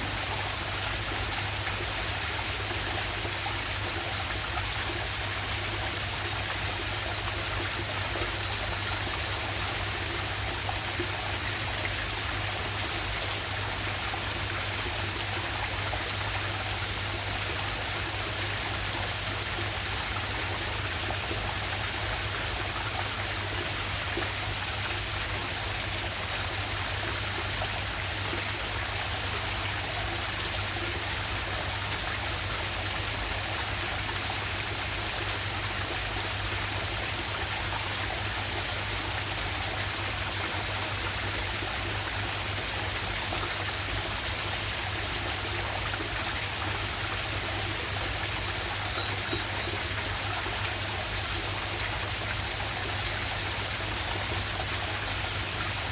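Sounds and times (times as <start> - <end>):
waterfall and stream rushing: 0.0 - 55.9.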